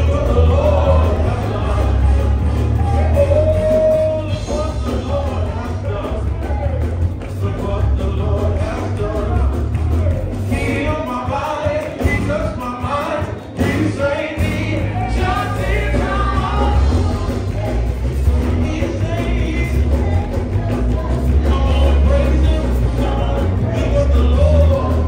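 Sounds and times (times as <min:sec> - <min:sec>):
band with strong bass: 0:00.0 - 0:25.0
voices singing: 0:00.0 - 0:25.0.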